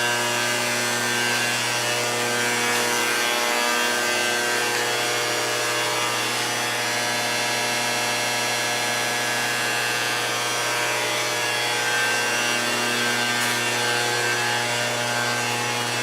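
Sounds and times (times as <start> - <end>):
shop machine humming: 0.0 - 7.5, 9.2 - 16.0.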